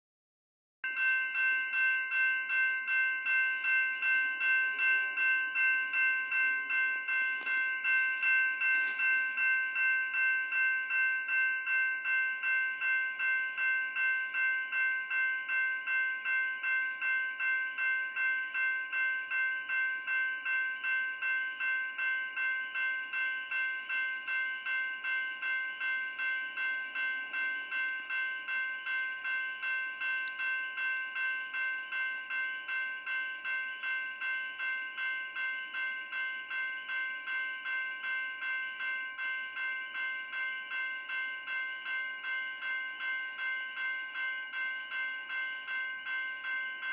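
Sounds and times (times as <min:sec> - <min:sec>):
level crossing warning bell ringing: 0:00.8 - 0:46.9.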